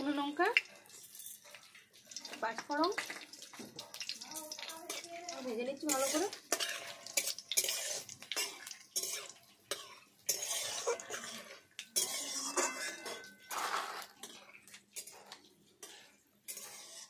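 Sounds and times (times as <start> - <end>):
metal spatula scraping a pan: 0.0 - 17.0
spices frying in oil: 0.0 - 17.0.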